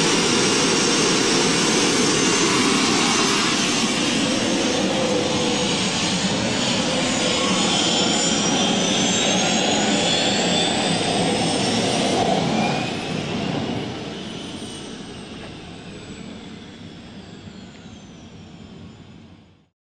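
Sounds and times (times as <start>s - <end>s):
turbine engine whine: 0.0s - 19.7s.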